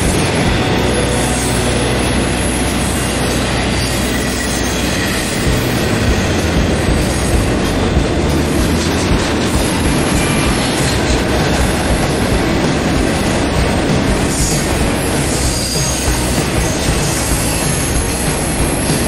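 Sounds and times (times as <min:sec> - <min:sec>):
freight train wheels rumbling: 0:00.0 - 0:19.0
loud clacks: 0:00.0 - 0:19.0.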